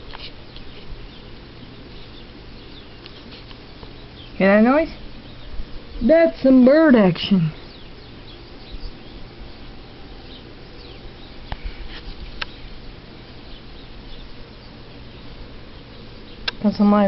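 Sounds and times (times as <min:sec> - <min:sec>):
birds chirping: 0:00.0 - 0:17.0
faint steady hum: 0:00.0 - 0:17.0.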